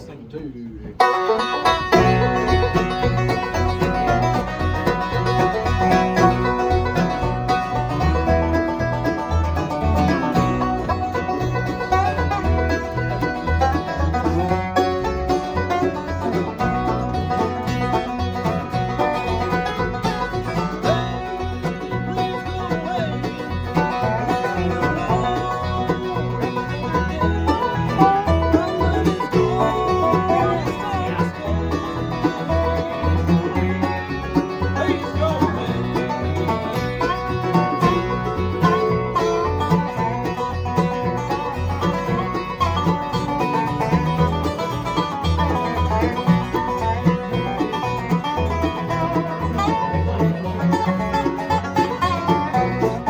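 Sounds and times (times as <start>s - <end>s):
banjo picking: 0.0s - 53.0s
guitar: 0.0s - 53.0s
pulsing bass line: 1.0s - 53.0s.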